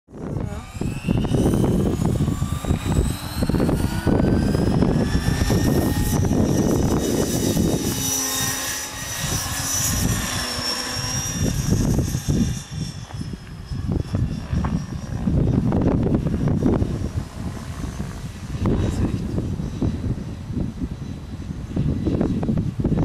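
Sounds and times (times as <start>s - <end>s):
electric rc helicopter whining: 0.1s - 23.0s
wind buffeting microphone: 0.1s - 23.0s.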